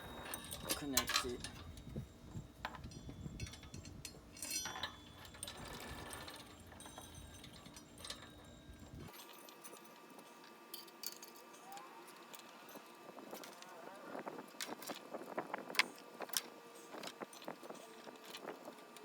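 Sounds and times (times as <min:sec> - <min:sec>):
bike chain clinking and rattling: 0:00.0 - 0:19.0.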